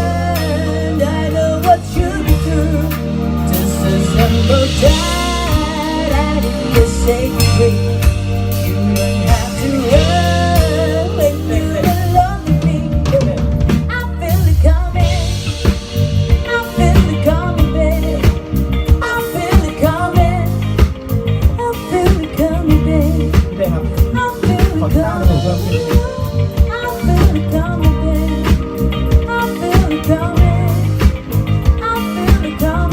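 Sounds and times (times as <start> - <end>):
bass: 0.0 - 32.9
drum kit: 0.0 - 32.9
person singing: 0.0 - 32.9.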